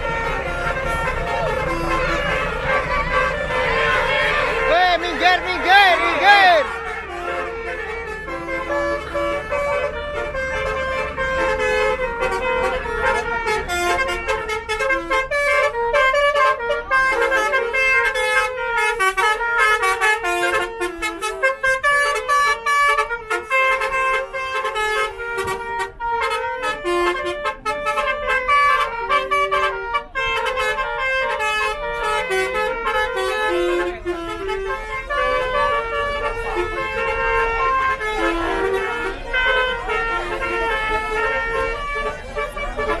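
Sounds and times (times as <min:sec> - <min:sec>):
multi-tone bus horn tune: 0:00.0 - 0:43.0.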